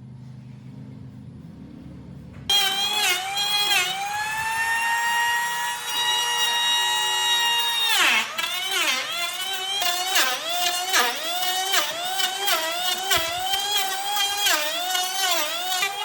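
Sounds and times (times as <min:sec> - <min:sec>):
power tool motor whining: 0:02.5 - 0:16.0.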